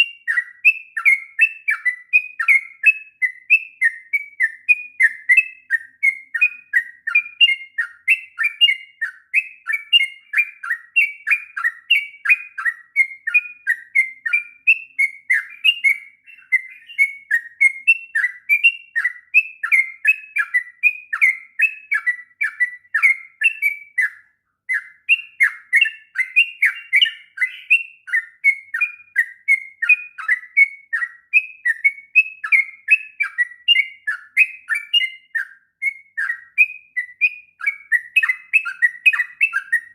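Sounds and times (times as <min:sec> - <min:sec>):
bird singing chirping phrases: 0:00.0 - 0:39.9.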